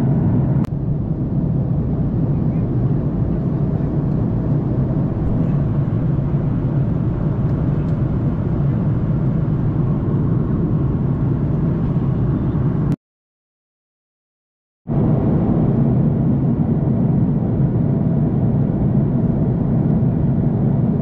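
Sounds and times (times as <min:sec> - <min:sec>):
jet airliner cabin rumble: 0:00.0 - 0:13.0, 0:14.9 - 0:21.0.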